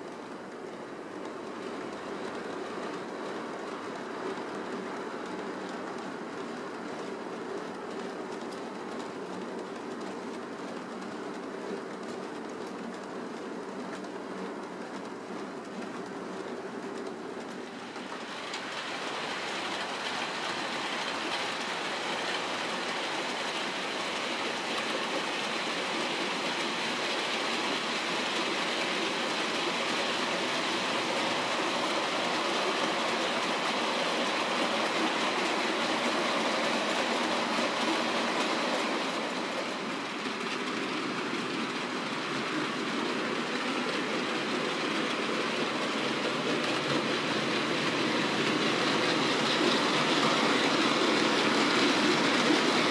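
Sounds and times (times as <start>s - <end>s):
model train wheels rattling on rail: 1.2s - 52.9s.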